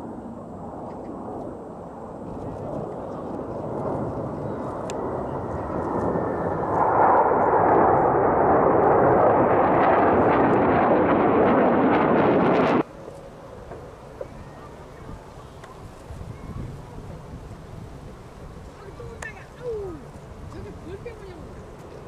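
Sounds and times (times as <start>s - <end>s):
jets roaring overhead: 0.0s - 22.0s.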